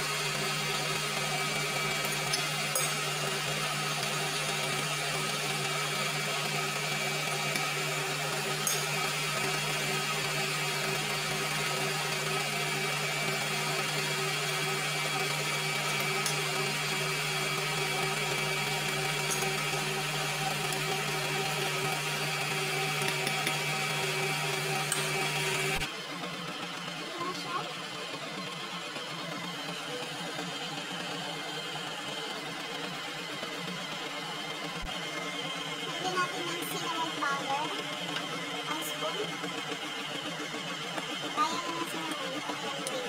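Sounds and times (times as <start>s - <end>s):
electric stand mixer running: 0.0s - 43.0s.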